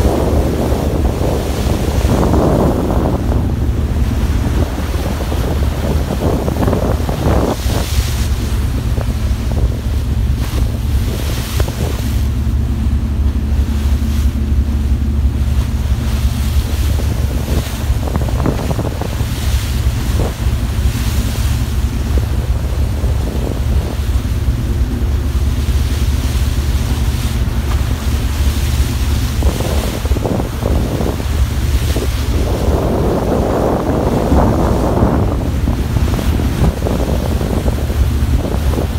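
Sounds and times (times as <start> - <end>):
ship engine drone: 0.0 - 38.9
wake churning past hull: 0.0 - 38.9
wind buffeting microphone: 0.0 - 38.9.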